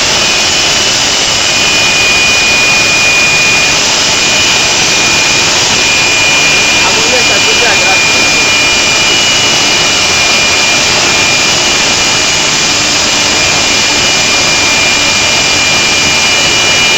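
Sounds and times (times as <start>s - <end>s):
race car engine running loud: 0.0s - 16.9s.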